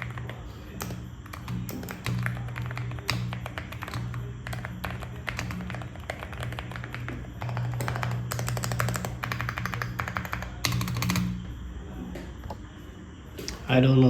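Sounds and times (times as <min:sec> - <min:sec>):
mechanical keyboard keystroke clacks: 0:00.0 - 0:11.4.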